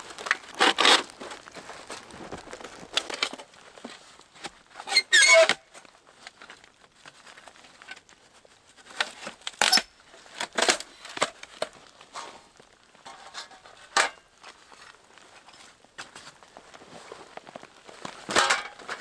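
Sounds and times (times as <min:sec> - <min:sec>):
crinkling and crunching rustles: 0:00.0 - 0:19.0.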